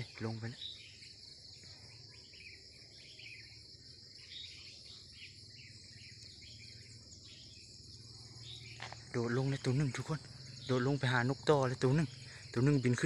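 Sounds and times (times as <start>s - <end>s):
birds chirping: 0.0s - 13.0s
high-pitched insect drone: 0.0s - 13.0s.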